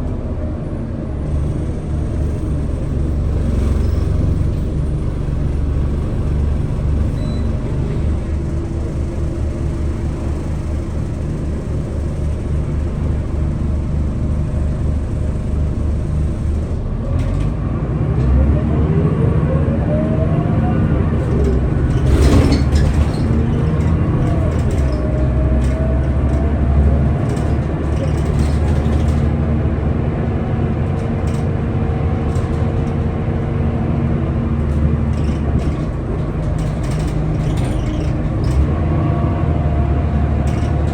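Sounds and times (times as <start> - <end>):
bus diesel engine rumbling: 0.0 - 40.9.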